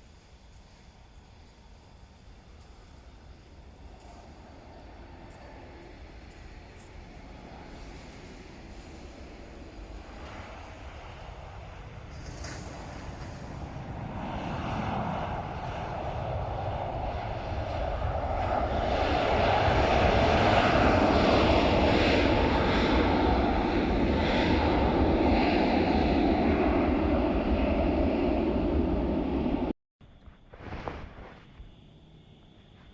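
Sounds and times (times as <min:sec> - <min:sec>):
jet airliner engines passing: 0:00.0 - 0:29.8.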